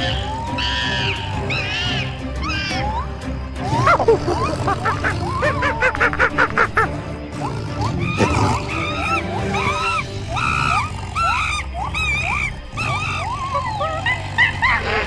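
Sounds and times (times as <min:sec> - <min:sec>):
monkeys shrieking: 0:00.0 - 0:15.0.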